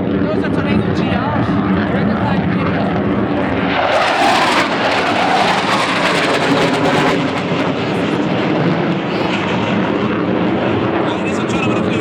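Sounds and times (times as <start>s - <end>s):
jet roar: 0.0s - 12.0s.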